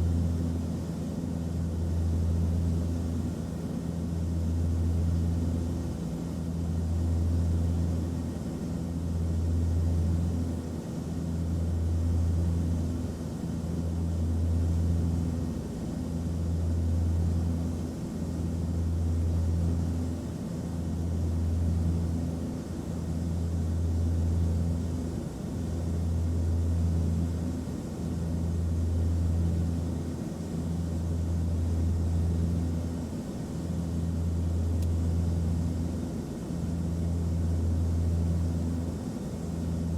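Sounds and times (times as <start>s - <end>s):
airplane engine drone: 0.0s - 39.9s.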